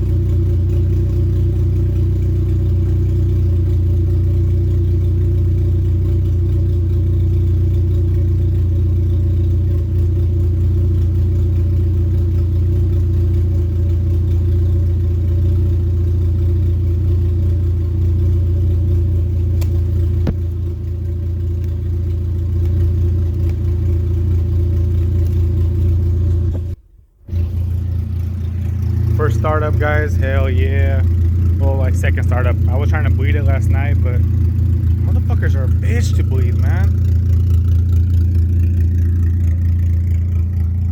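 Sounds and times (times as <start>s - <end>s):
car engine idling loudly: 0.0s - 40.9s.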